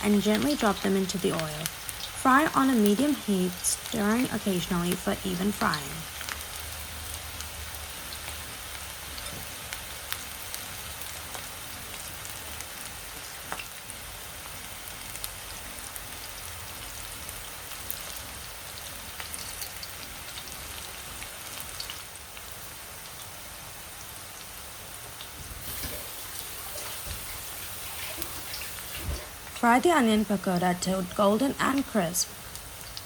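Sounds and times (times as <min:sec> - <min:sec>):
oil sizzling with pops: 0:00.0 - 0:33.0.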